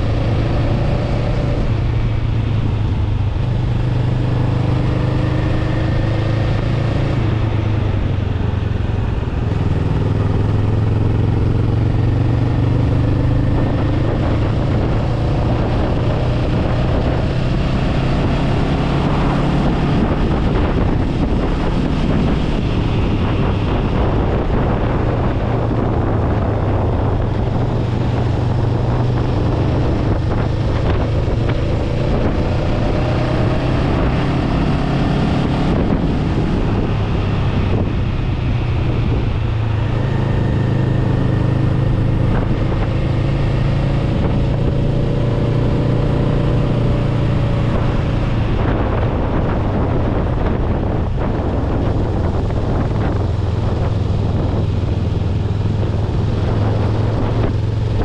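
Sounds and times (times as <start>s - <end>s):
motorcycle engine revving: 0.0s - 58.0s
wind noise on microphone: 0.0s - 58.0s.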